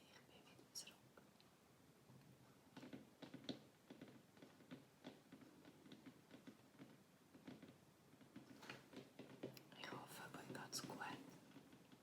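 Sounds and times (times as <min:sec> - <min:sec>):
soft clicks and taps: 0:00.0 - 0:12.0.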